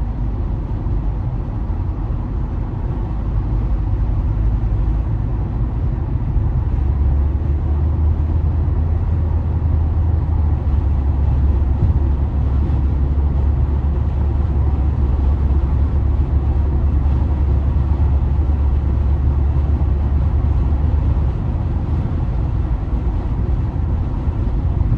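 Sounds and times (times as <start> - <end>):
car road and engine rumble: 0.0 - 24.9.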